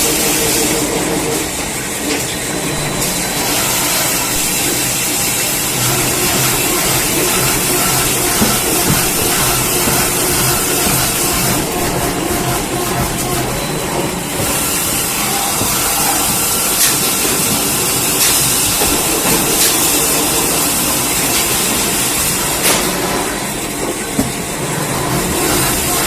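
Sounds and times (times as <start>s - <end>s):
band saw running: 0.0s - 26.0s.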